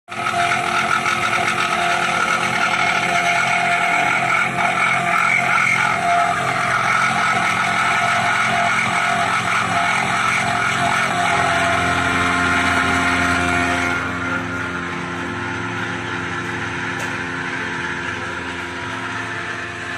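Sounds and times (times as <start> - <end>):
milling machine cutting metal: 0.0 - 19.9.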